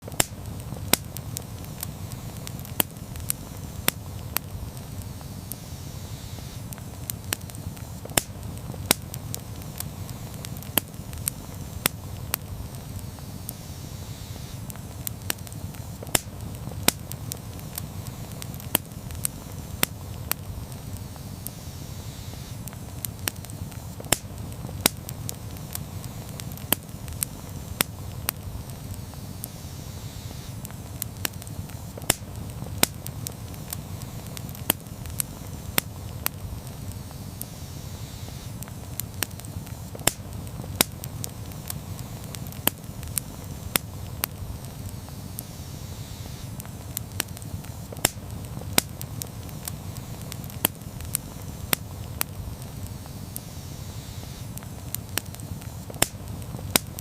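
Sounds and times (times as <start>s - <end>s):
wood popping and crackling: 0.0s - 13.7s, 14.3s - 21.6s, 22.2s - 29.6s, 30.4s - 37.6s, 38.3s - 57.0s
low rumble of flames: 0.0s - 57.0s.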